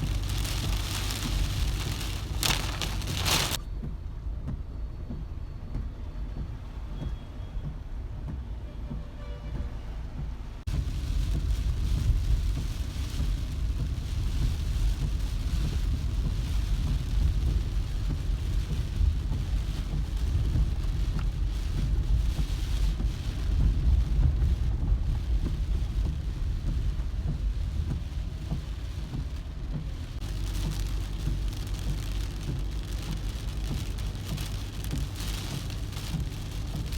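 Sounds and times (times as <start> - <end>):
rain falling on a car: 0.0 - 3.6, 10.1 - 36.9
car driving rumble: 0.0 - 8.9, 9.8 - 36.9.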